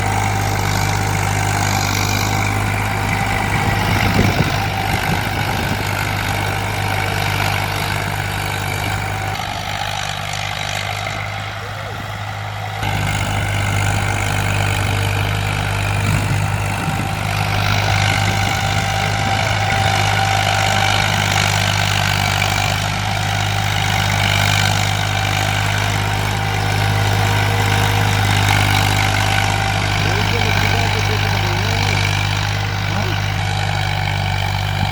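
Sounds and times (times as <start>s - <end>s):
tractor engine humming: 0.0s - 34.9s.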